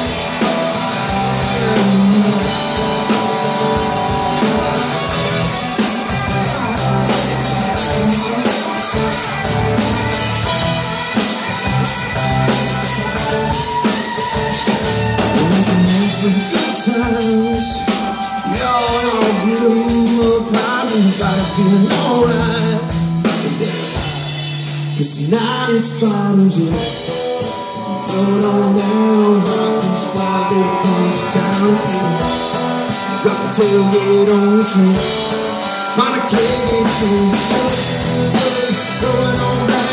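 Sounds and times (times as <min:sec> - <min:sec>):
drum kit: 0:00.0 - 0:39.9
electric guitars: 0:00.0 - 0:39.9
man singing lead: 0:00.0 - 0:39.9.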